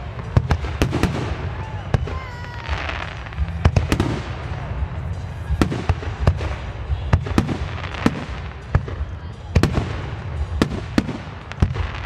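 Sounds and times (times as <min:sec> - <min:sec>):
continuous low rumble: 0:00.0 - 0:12.0
fireworks bursting: 0:00.0 - 0:12.0.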